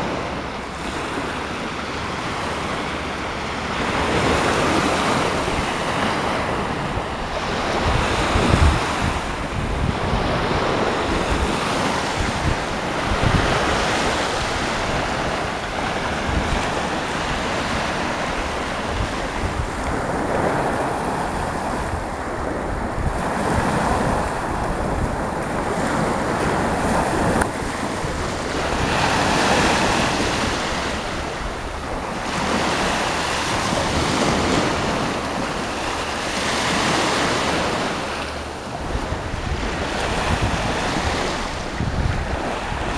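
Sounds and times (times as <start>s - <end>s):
sea waves washing ashore: 0.0s - 42.9s
wind buffeting microphone: 0.0s - 42.9s.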